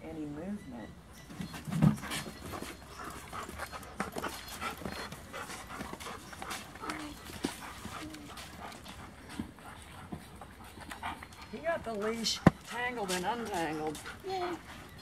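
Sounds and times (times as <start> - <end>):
dog panting: 1.2 - 15.0.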